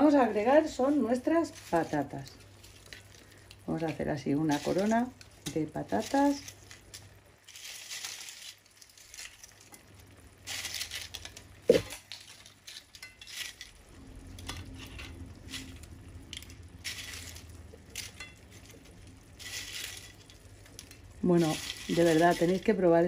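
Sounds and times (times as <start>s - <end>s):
potato chips crackling: 0.0s - 23.0s
sauce simmering: 0.4s - 10.5s, 11.1s - 23.0s.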